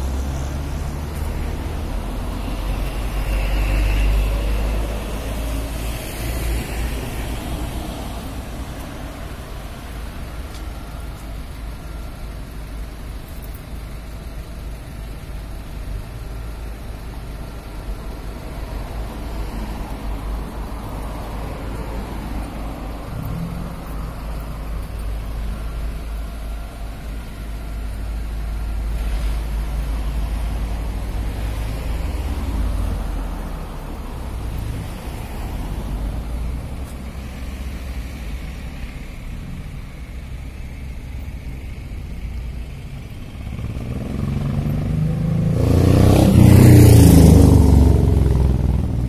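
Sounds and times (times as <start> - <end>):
road traffic passing: 0.0 - 49.0.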